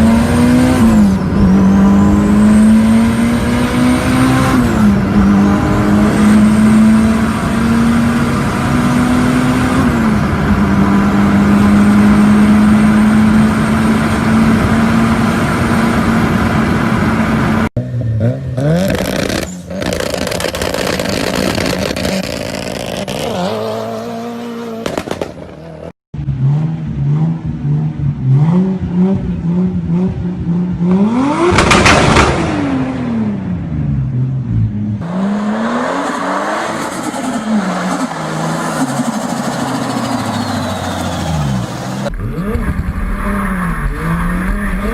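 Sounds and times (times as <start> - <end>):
car engine revving and accelerating: 0.0 - 44.9.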